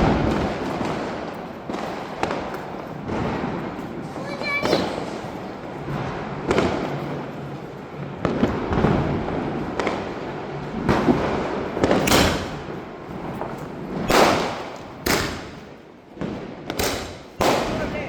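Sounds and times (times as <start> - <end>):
firework shells bursting with bangs: 0.0 - 18.0.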